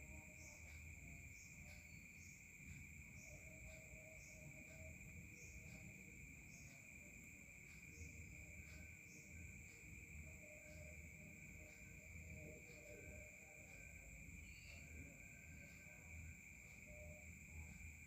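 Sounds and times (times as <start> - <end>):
soft chirps: 0.0 - 18.0.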